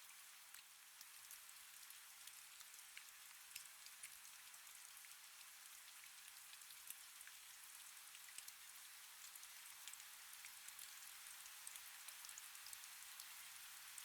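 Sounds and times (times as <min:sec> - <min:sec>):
faint steady rain hiss: 0:00.0 - 0:14.0.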